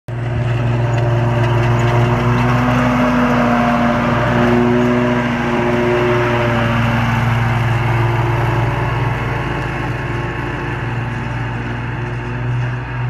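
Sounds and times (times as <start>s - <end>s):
riding mower engine drone: 0.1s - 13.0s
whining tones: 0.1s - 13.0s.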